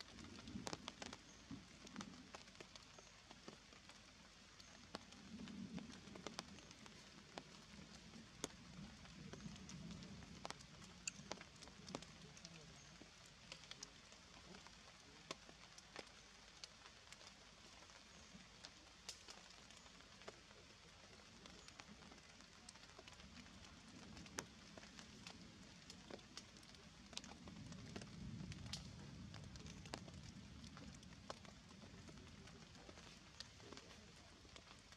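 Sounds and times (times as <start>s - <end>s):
rain drips on leaves: 0.0s - 34.9s.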